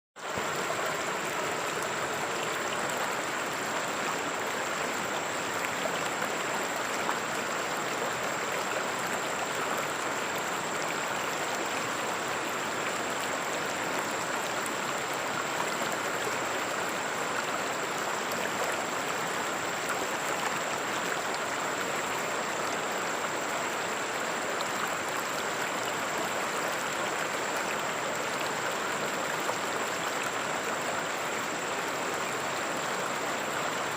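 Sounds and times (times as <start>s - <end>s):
river water flowing: 0.2s - 33.9s.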